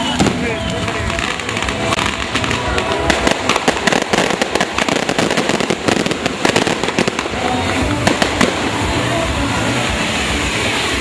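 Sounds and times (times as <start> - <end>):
fireworks crackling and popping: 0.0 - 11.0
fireworks rushing: 0.0 - 11.0.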